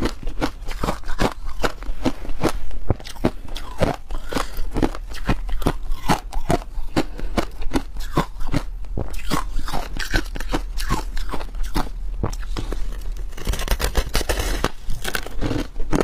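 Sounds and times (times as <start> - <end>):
teeth crunching ice: 0.0 - 16.0.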